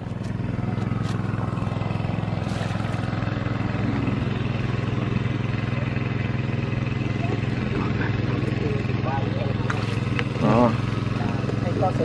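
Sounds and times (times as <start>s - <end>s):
small engine droning: 0.0s - 12.0s.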